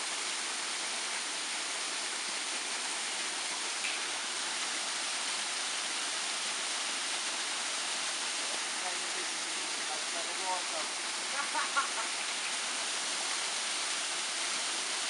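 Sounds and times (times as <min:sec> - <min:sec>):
small waterfall rushing: 0:00.0 - 0:15.0.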